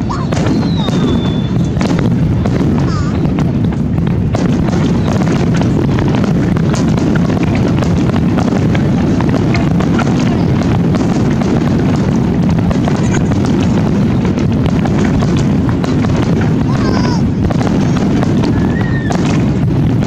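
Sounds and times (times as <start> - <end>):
fireworks booming: 0.0 - 20.0
sharp firework cracks: 0.0 - 20.0.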